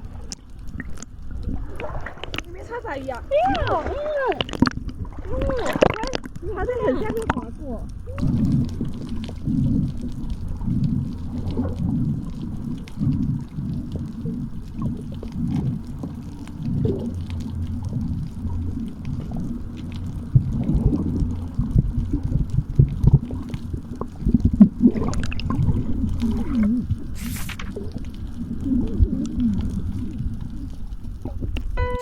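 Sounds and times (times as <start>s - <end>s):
bubbles hissing: 0.0s - 32.0s
underwater sloshing and gurgling: 0.0s - 32.0s.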